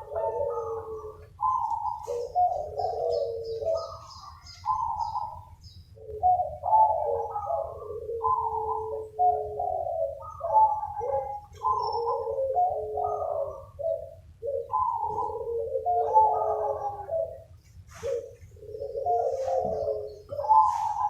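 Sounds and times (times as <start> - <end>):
doves cooing: 0.0 - 21.0.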